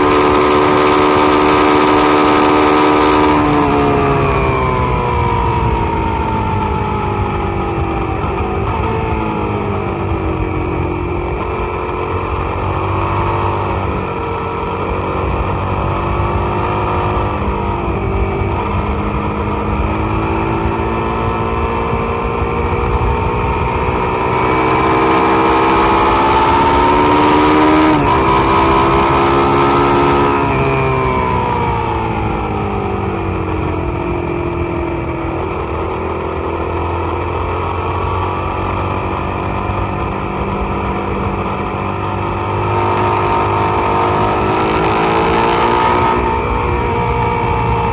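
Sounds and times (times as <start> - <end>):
motorcycle engine revving: 0.0 - 47.9
wind rushing over microphone: 0.0 - 47.9.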